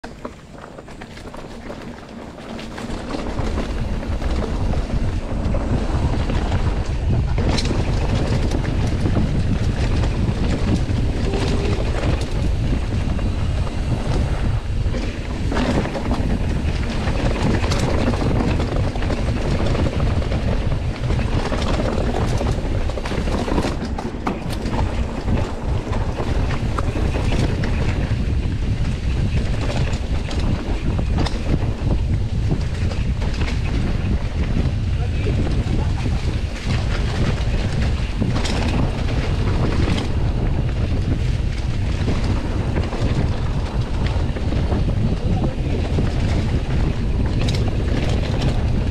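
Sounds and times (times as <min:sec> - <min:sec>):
bike rattling and knocking: 0:00.0 - 0:48.9
wind buffeting microphone: 0:00.0 - 0:48.9.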